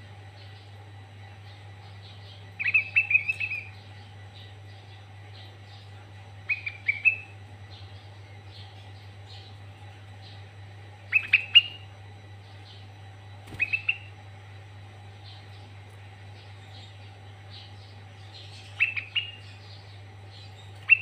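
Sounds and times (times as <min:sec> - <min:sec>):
steady low hum: 0:00.0 - 0:21.0
faint bird chirping: 0:00.1 - 0:21.0.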